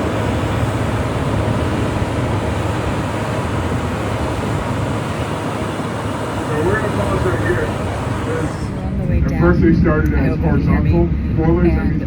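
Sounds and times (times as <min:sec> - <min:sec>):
train rumble and clatter: 0:00.0 - 0:12.0.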